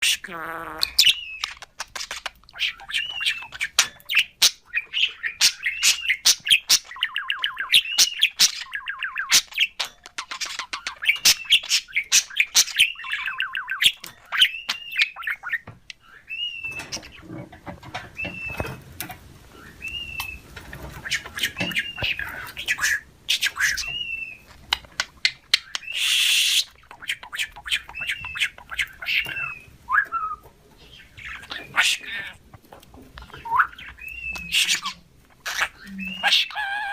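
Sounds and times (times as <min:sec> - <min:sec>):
budgerigar chirping and trilling: 0:00.0 - 0:17.4, 0:19.6 - 0:32.5, 0:33.1 - 0:36.9
low background noise: 0:00.0 - 0:36.9.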